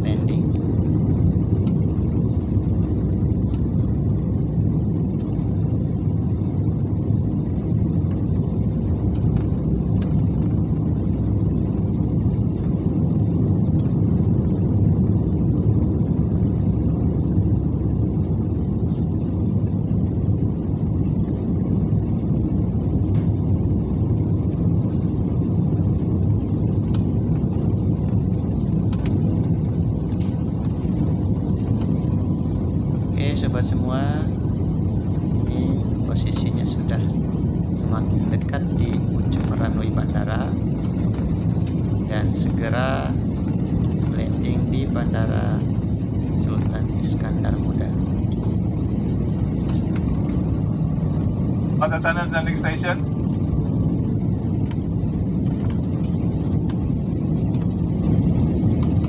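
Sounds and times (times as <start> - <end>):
jet engines and airflow rumble: 0.0 - 59.0.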